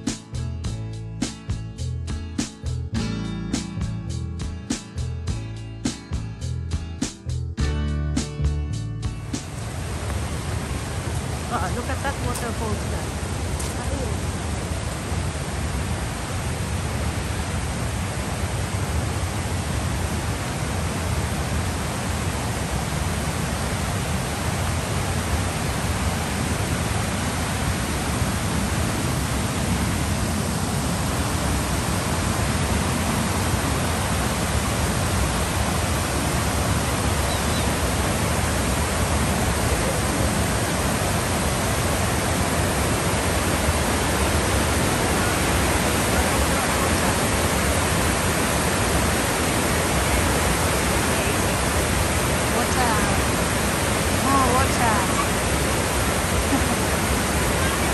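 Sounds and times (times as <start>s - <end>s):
waterfall rushing: 9.4s - 57.9s.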